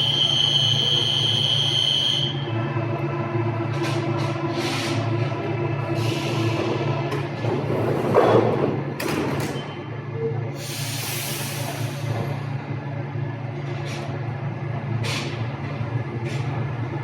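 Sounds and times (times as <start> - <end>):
train low electrical hum: 0.0 - 17.0
train rumble: 0.0 - 17.0.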